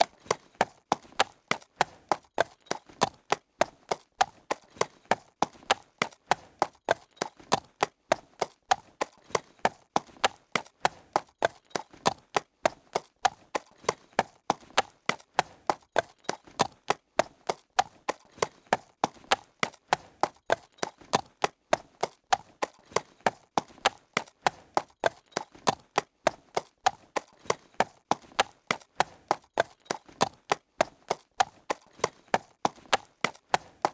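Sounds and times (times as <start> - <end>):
horse hooves clip-clopping: 0.0 - 33.9.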